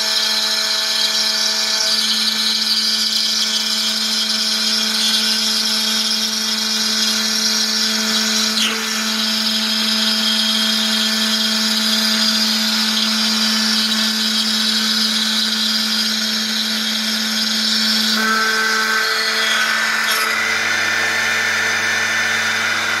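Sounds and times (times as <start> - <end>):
router spindle hum: 0.0 - 23.0.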